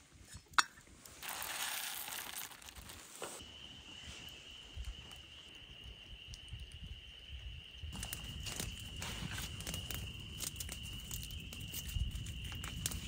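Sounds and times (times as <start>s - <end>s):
campfire crackling and hissing: 0.0s - 13.0s.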